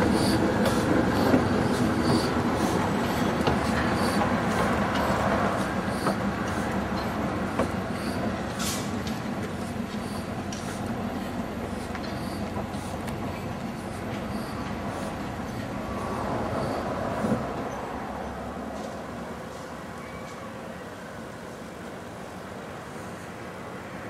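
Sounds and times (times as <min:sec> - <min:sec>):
steam locomotive exhaust beats: 0:00.0 - 0:19.8
wheels clicking over rail joints: 0:00.0 - 0:20.6
train rumble: 0:00.0 - 0:24.0.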